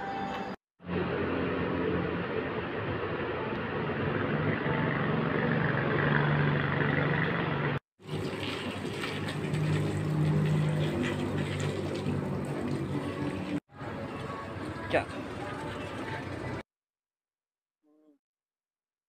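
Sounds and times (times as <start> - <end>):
traffic noise: 0.0 - 16.6
low engine hum: 0.8 - 16.6.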